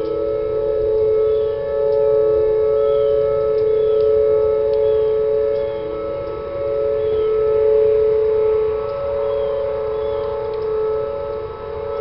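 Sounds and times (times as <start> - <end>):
warning sirens steady tone: 0.0 - 12.0.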